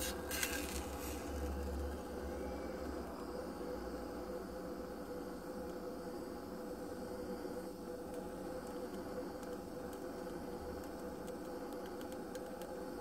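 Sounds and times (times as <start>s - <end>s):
blowtorch flame hissing: 0.0s - 10.6s.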